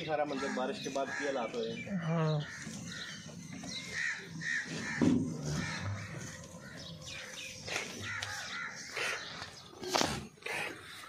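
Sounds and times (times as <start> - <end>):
crows cawing: 0.1 - 1.8, 2.4 - 9.8.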